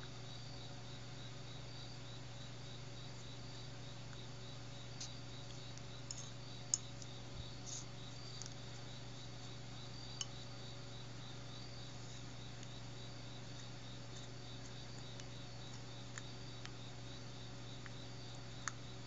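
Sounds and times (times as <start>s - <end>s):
insect chirping: 0.0s - 19.0s
steady low hum: 0.0s - 19.0s.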